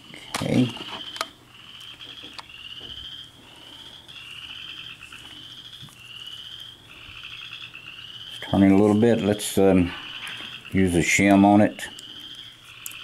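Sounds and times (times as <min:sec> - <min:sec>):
high-pitched animal trilling: 0:00.9 - 0:13.0.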